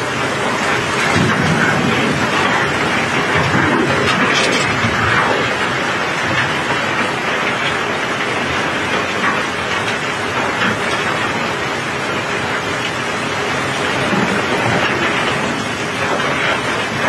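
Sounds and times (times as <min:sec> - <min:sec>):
cobblestones pouring and clattering: 0:00.0 - 0:17.0
rain on a steel deck: 0:00.0 - 0:17.0.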